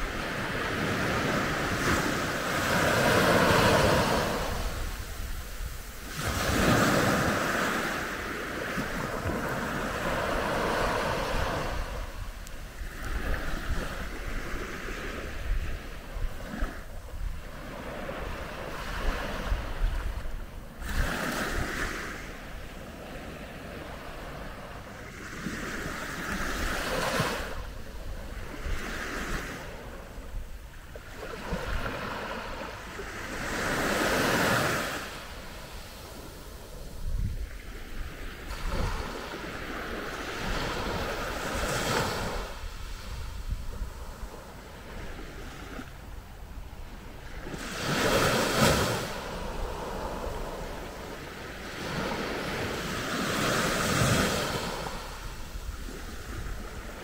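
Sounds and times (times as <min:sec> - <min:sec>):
waves breaking on sandy beach: 0:00.0 - 0:57.0.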